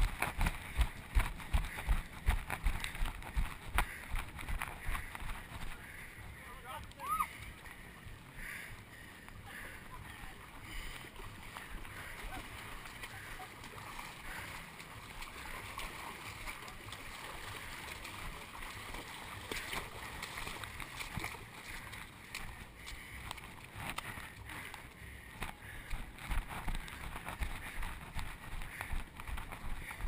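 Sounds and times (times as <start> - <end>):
muffled rumble of jostled camera: 0.0 - 30.0.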